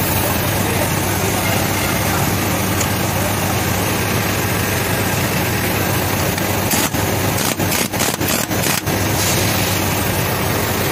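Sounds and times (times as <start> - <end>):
loud mechanical running noise: 0.0 - 10.9.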